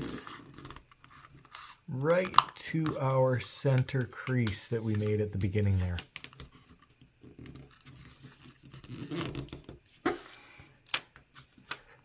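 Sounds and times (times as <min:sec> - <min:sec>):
paper folding and crinkling: 0:00.2 - 0:12.0.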